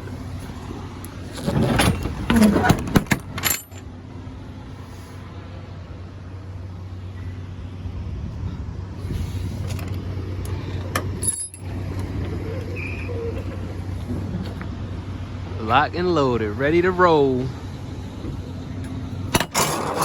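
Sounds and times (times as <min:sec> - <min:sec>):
diesel truck engine idling: 0:00.0 - 0:02.3, 0:03.3 - 0:19.4.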